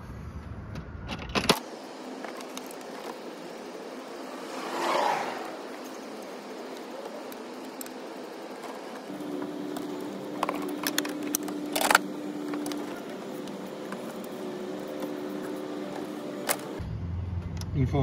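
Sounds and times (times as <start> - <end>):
steady low hum: 0.1 - 17.9.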